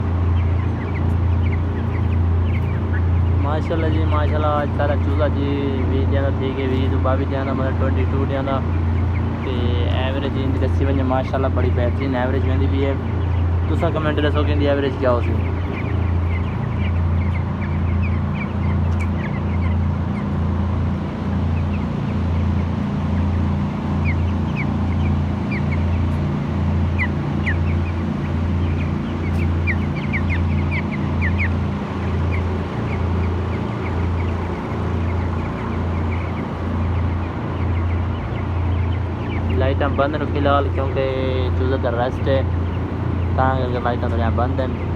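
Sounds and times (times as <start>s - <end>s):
chicks peeping: 0.0s - 44.9s
pulsing machine hum: 0.0s - 44.9s.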